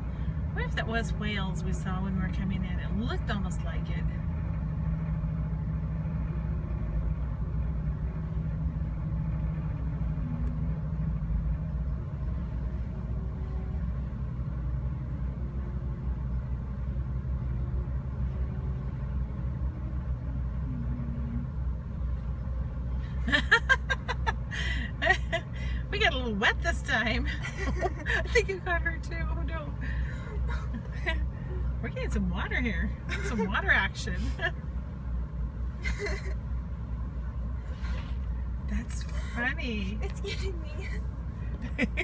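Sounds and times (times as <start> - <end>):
ferry engine drone: 0.0 - 42.0.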